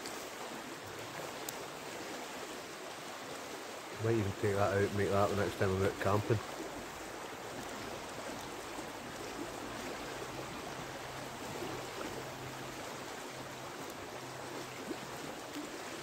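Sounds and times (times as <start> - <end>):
river flowing over stones: 0.0 - 16.0.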